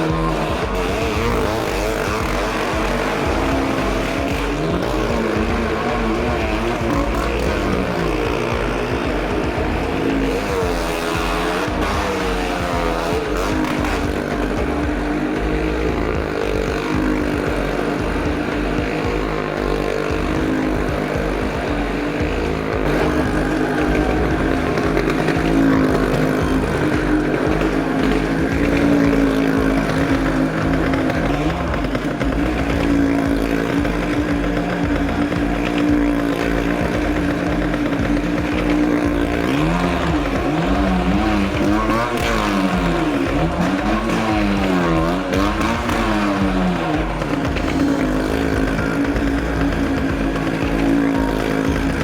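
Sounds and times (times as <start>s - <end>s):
motorcycle and car engines droning: 0.0s - 52.0s.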